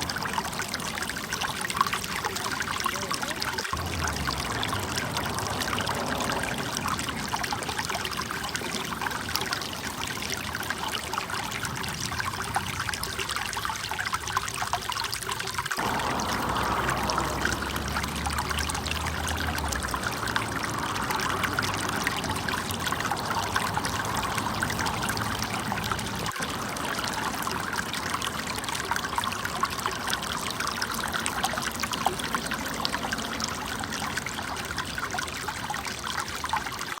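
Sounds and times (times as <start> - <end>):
water trickling: 0.0 - 37.0.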